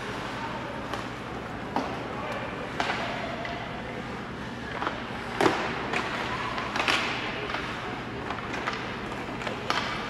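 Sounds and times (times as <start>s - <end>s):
hockey sticks and puck clacking: 0.1s - 3.7s, 4.6s - 10.0s.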